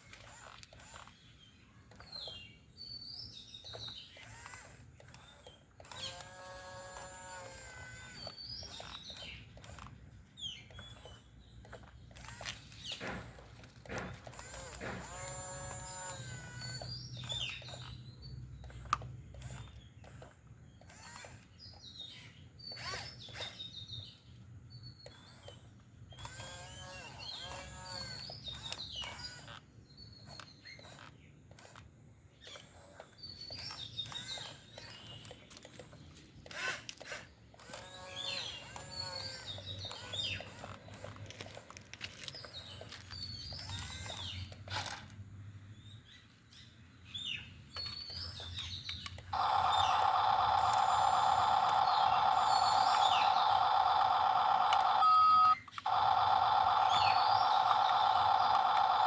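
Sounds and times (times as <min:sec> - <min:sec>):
small birds chirping: 0:00.0 - 0:45.0, 0:45.7 - 0:59.0.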